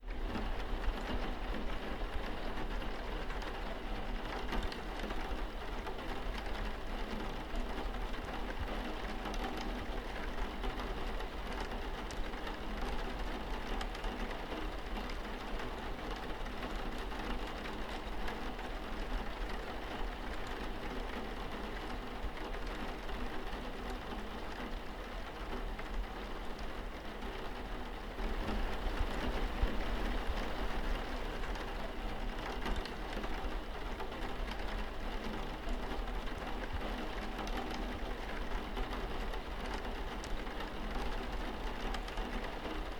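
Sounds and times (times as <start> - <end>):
rain on window pane: 0.1 - 42.9.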